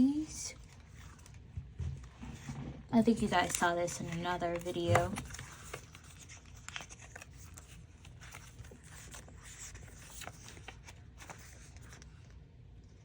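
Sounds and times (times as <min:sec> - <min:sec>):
stickers and packaging rustling: 0:00.0 - 0:12.4.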